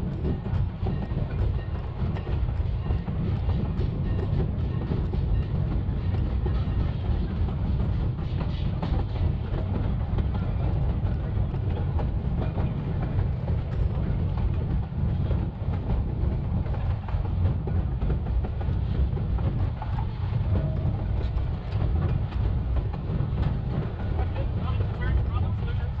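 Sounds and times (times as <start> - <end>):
rail cars rumbling on track: 0.0 - 26.0.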